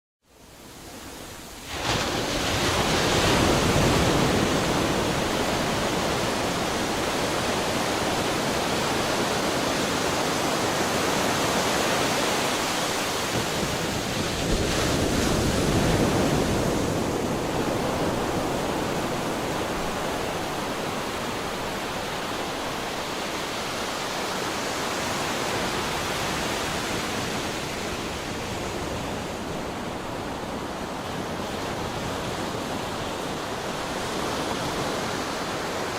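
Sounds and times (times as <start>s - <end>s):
sea waves breaking on shore: 0.4s - 35.9s.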